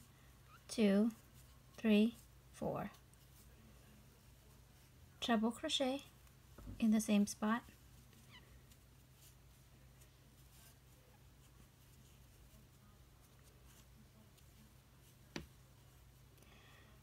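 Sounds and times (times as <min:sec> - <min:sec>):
yarn rustling with crochet hook: 0:00.0 - 0:17.0.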